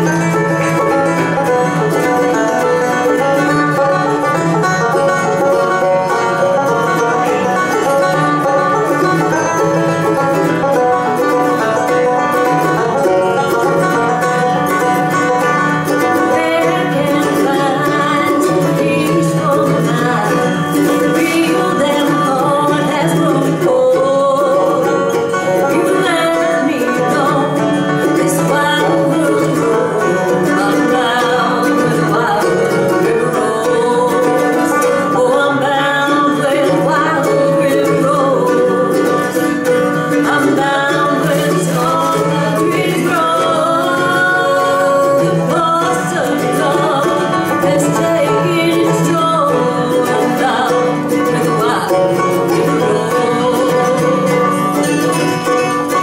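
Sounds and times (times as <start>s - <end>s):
acoustic guitar: 0.0s - 56.0s
banjo: 0.0s - 56.0s
mandolin: 0.0s - 56.0s
woman singing: 0.0s - 56.0s.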